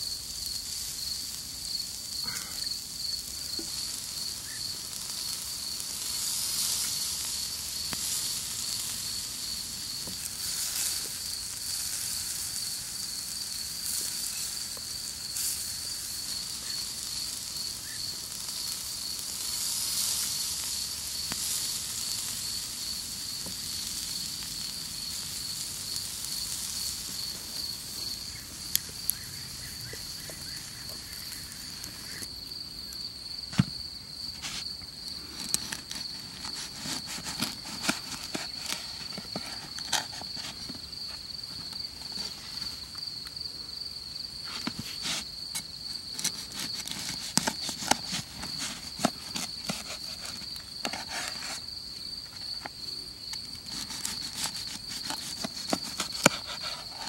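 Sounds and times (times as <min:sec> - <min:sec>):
crackles and pops: 0:00.0 - 0:43.4, 0:44.3 - 0:57.0
insect trilling: 0:00.0 - 0:57.0
meat sizzling on a grill: 0:00.0 - 0:57.0.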